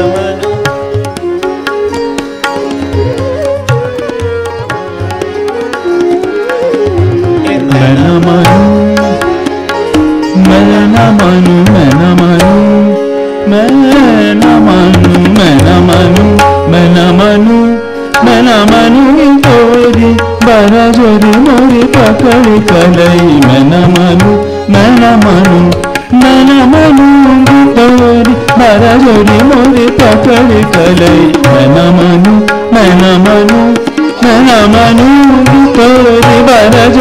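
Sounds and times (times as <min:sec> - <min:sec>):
man singing: 0:00.0 - 0:01.2, 0:06.4 - 0:37.0
harmonium: 0:00.0 - 0:37.0
sitar: 0:00.0 - 0:37.0
tabla strokes: 0:00.0 - 0:37.0.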